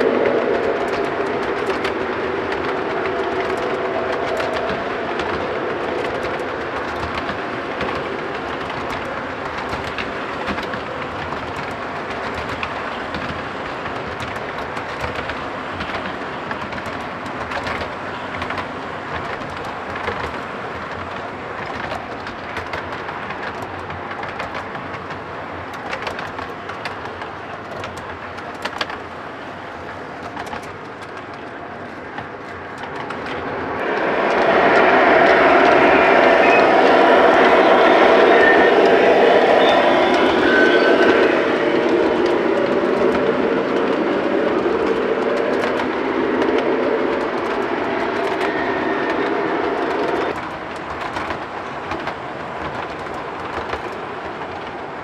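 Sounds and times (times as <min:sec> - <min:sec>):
clicks at rail joints: 0:00.0 - 0:55.0
model train cars rumbling: 0:00.0 - 0:55.0.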